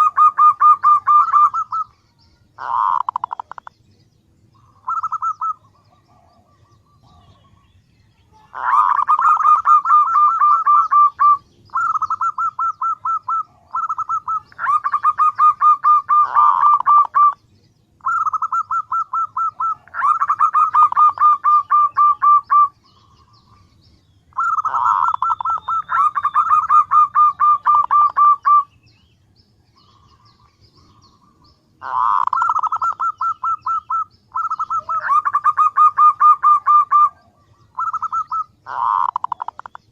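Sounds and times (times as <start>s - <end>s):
dove cooing: 0.0s - 3.7s, 4.5s - 7.7s, 8.4s - 17.4s, 18.0s - 23.7s, 24.3s - 28.8s, 29.8s - 39.9s.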